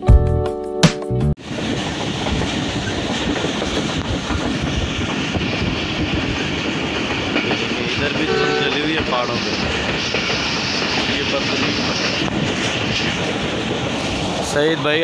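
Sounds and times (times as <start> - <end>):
train wheels rumbling on rails: 1.4 - 15.0.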